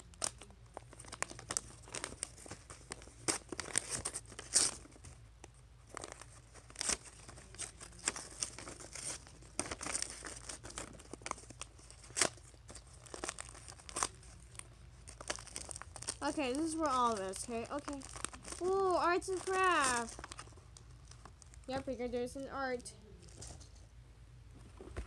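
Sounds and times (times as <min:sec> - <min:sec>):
wrapping paper tearing and crumpling: 0:00.0 - 0:23.6.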